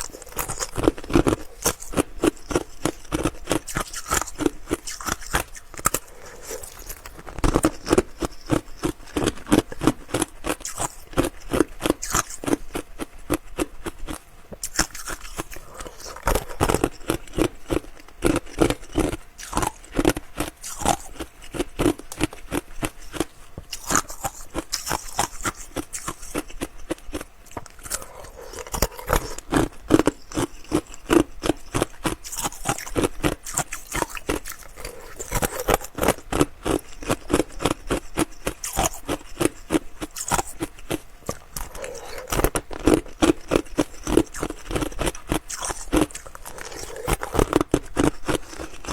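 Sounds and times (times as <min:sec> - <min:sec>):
ice crunching and chewing: 0:00.0 - 0:48.9.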